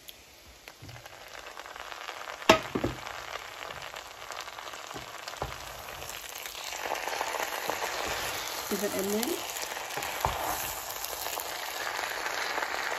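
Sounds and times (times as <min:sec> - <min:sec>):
curry sizzling in frying pan: 0:00.0 - 0:12.9.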